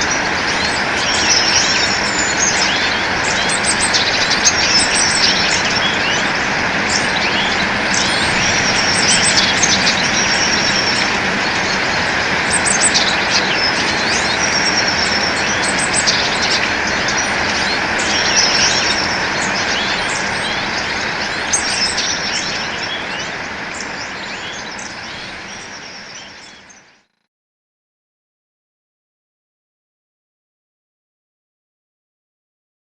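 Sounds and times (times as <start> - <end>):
high bird trill: 0.0 - 26.9
songbirds chirping: 0.0 - 27.1
steady noisy background: 0.0 - 27.2.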